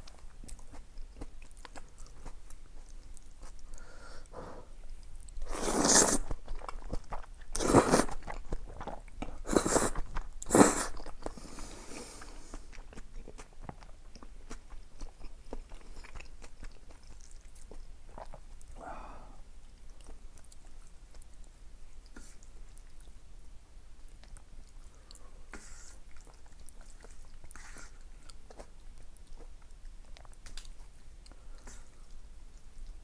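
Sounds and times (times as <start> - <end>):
chewing: 0.0 - 3.8, 4.9 - 18.8, 19.7 - 23.2, 24.0 - 33.0.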